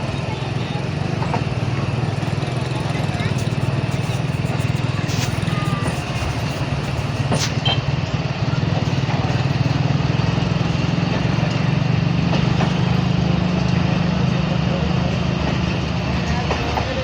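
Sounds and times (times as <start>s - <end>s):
diesel train engine rumbling: 0.0s - 17.0s.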